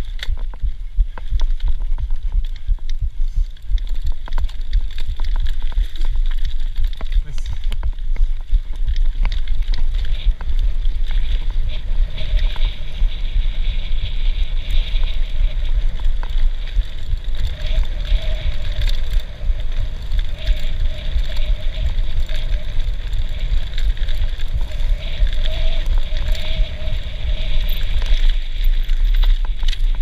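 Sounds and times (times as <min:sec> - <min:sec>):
bike rattles and clicks: 0:00.0 - 0:30.0
tyre rumble: 0:00.0 - 0:30.0
wind buffeting microphone: 0:00.0 - 0:30.0.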